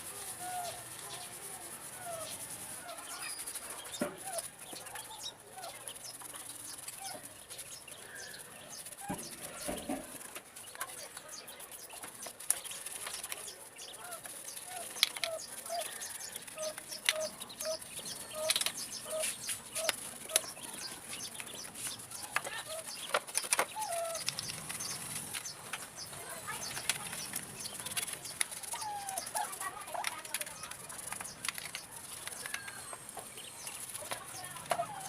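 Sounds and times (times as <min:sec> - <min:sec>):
birds calling: 0:00.0 - 0:35.0
sharp clicks and scrapes: 0:00.0 - 0:35.0.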